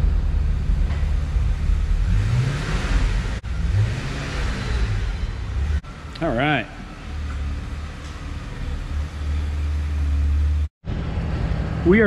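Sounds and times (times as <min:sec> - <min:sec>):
car engine revving at low speed: 0:00.0 - 0:11.8.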